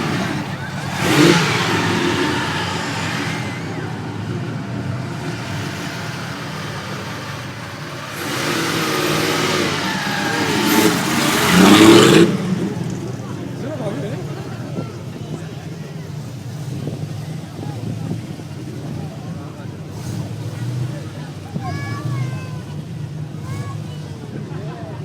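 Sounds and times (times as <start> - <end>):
sports car engine revving: 0.0 - 21.5.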